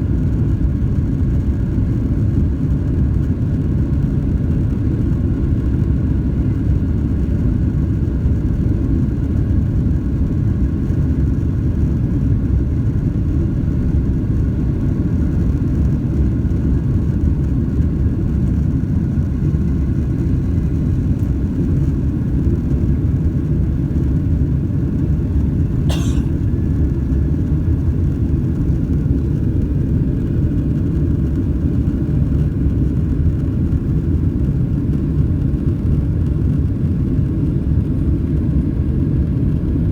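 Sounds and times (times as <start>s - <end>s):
jet engines rumbling: 0.0s - 39.8s.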